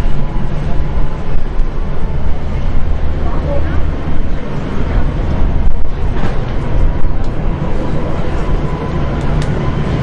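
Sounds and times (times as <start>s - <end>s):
jet engines rumbling at takeoff: 0.0s - 10.0s.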